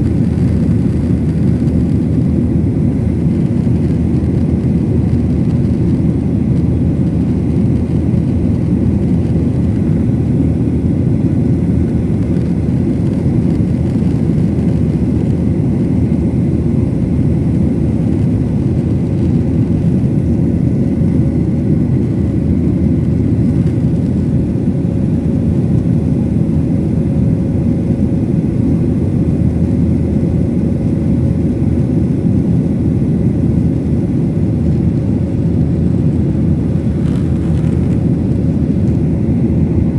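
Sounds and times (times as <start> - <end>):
airliner engines low rumble: 0.0 - 39.9
faint steady whine: 0.0 - 39.9.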